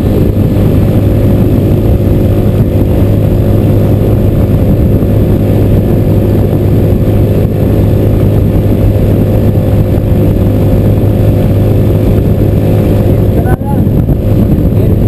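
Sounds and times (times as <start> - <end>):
motorcycle engine cruising: 0.0 - 15.0
wind rushing: 0.0 - 15.0.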